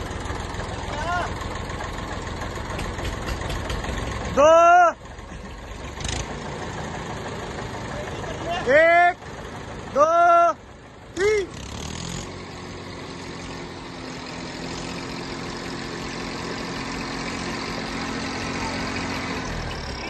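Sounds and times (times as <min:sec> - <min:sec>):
diesel tractor engines straining: 0:00.0 - 0:20.0.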